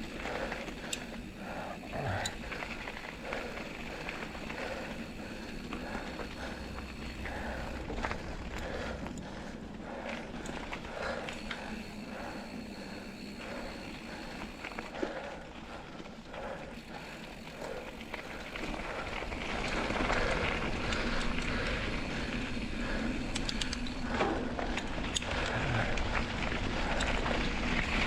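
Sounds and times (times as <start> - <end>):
bike rattling: 0.0 - 28.0
bike tyres rolling on dirt: 0.0 - 28.0.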